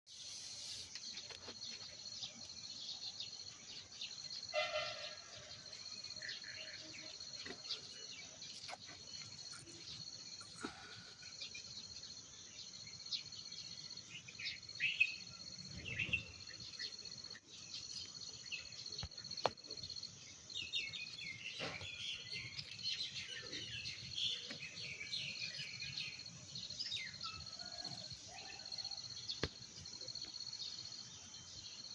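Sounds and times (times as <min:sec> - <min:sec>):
insect chorus: 0:00.1 - 0:31.9.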